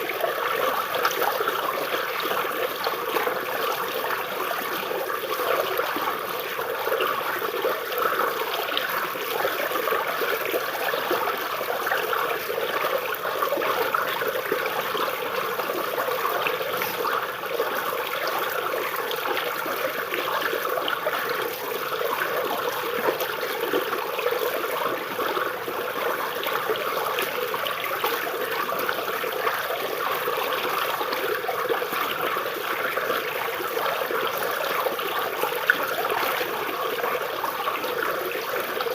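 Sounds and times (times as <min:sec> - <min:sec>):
stream trickling over roots: 0:00.0 - 0:38.9.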